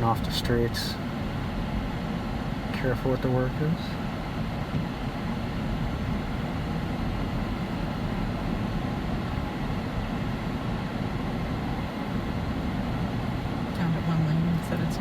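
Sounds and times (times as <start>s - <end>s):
car cabin road noise: 0.0s - 15.0s.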